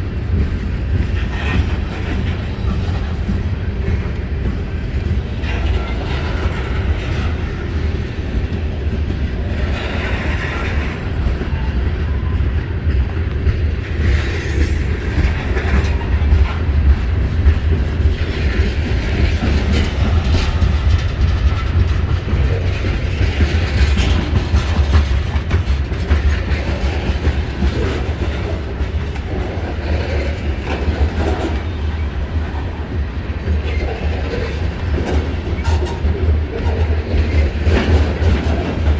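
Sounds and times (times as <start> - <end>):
train cars clattering: 0.0 - 38.9
train wheels rumbling on rail: 0.0 - 38.9.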